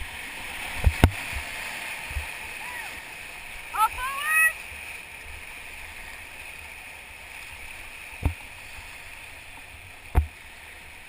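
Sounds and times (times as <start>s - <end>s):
whitewater river rushing: 0.0s - 11.0s.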